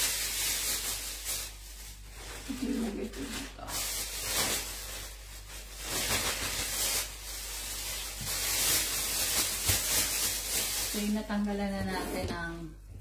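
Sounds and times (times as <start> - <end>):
chili stems rustling and crackling: 0.0 - 11.9
low steady hum: 0.0 - 13.0.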